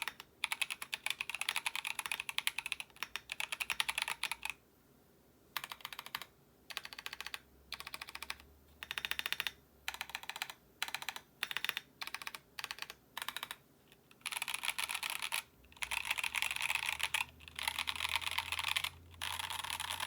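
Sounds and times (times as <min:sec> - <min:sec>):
mechanical keyboard typing: 0:00.0 - 0:04.6, 0:05.6 - 0:20.0.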